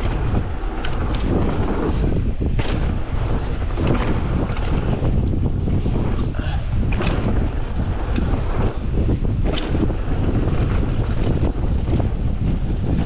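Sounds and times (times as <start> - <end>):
bike knocks and rattles: 0.0 - 13.0
tyres rumbling on dirt: 0.0 - 13.0
wind buffeting microphone: 0.0 - 13.0.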